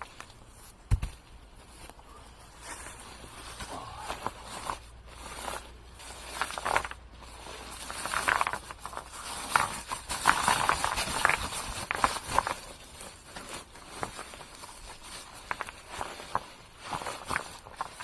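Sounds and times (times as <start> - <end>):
stones and gravel crunching: 0.0 - 18.0.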